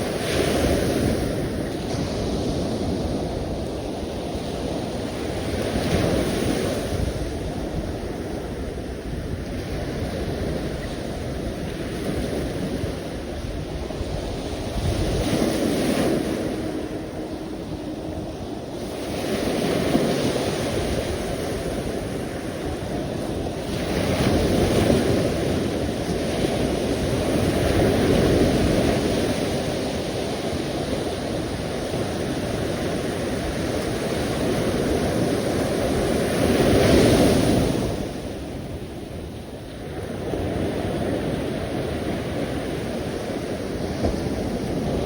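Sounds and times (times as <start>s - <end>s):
sea waves washing on shore: 0.0s - 45.0s.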